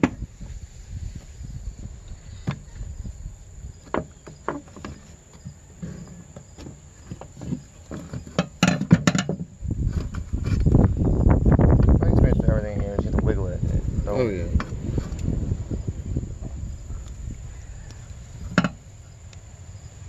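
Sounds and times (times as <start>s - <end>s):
low rumbling handling noise: 0.0s - 20.0s.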